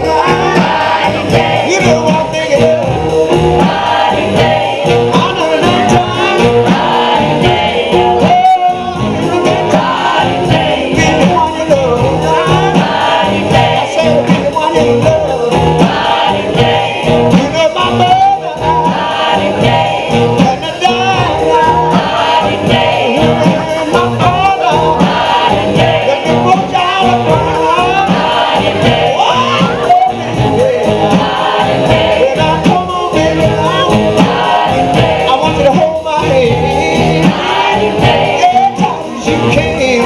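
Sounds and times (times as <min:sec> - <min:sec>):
man singing: 0:00.0 - 0:03.3, 0:04.4 - 0:06.8, 0:07.4 - 0:22.0, 0:22.7 - 0:25.1, 0:25.8 - 0:31.2, 0:31.8 - 0:40.0
live soul band: 0:00.0 - 0:40.0.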